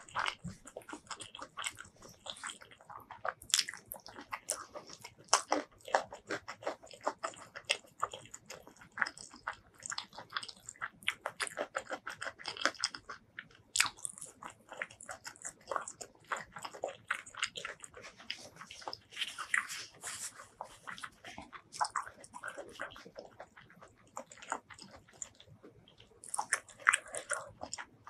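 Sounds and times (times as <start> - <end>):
chewing with wet mouth clicks: 0.0 - 28.0.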